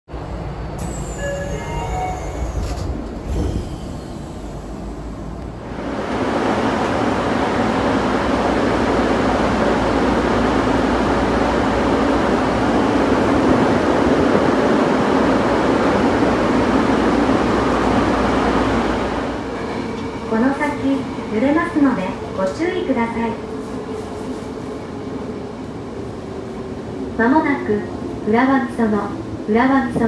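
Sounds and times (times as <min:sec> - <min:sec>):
subway train running noise: 0:00.1 - 0:30.0.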